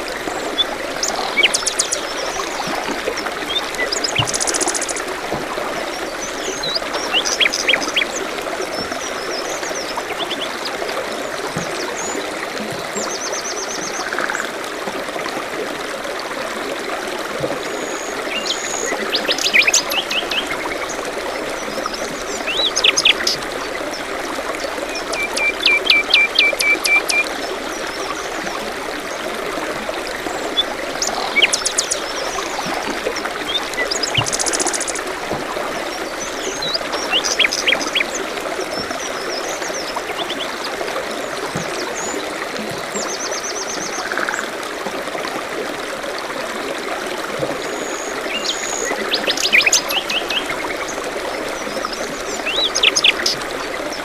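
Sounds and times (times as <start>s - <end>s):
stream water trickling: 0.0s - 54.0s.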